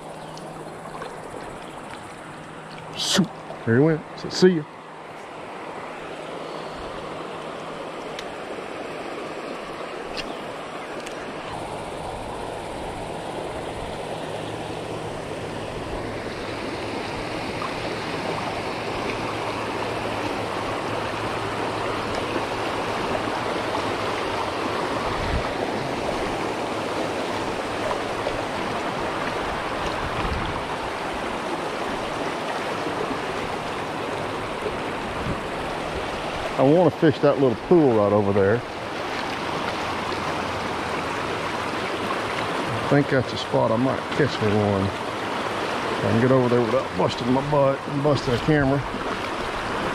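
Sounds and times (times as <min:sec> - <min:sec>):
creek water rushing over rocks: 0:00.0 - 0:49.9.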